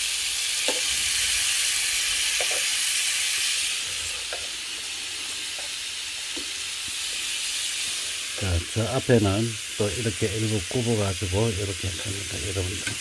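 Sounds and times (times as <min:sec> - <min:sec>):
meat sizzling on grill: 0:00.0 - 0:13.0.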